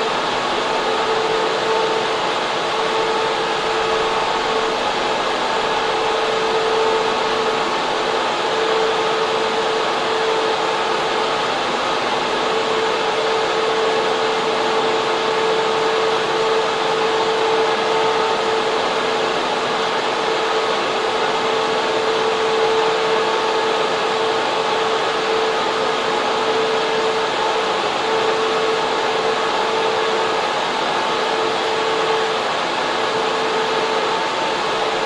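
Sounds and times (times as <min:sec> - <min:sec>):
mid-pitched hum: 0:00.0 - 0:35.0
server fans rushing: 0:00.0 - 0:35.0.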